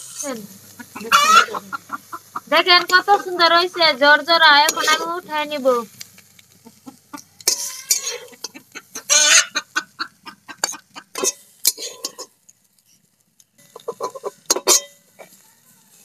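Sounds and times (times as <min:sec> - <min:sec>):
hens clucking: 0:00.0 - 0:12.3, 0:13.6 - 0:16.0
metal spatula scraping a pan: 0:00.0 - 0:15.4.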